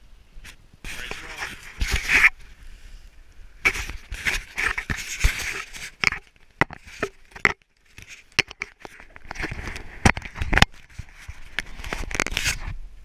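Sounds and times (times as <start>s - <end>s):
camera handling clicks and rustles: 0.9s - 2.4s, 3.6s - 12.7s.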